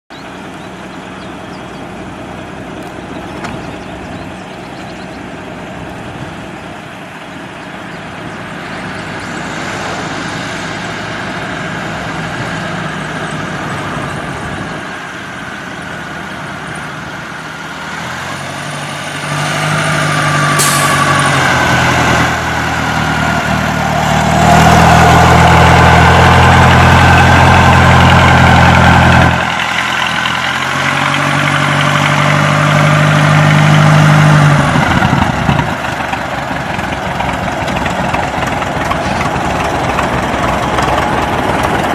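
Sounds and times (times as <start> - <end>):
old car engine running: 0.1 - 10.3, 11.2 - 17.8, 24.9 - 41.9.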